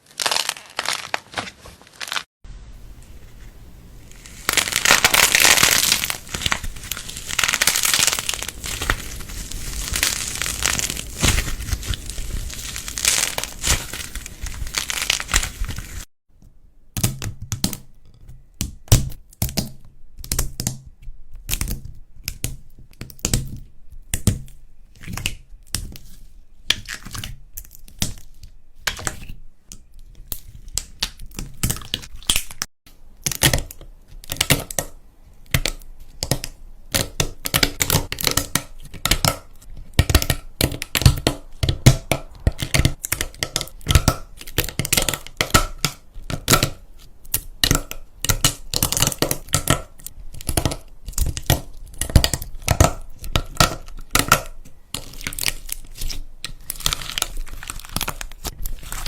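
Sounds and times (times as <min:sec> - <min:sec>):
slime and clay crunching: 0:00.0 - 0:16.1, 0:20.2 - 0:59.0.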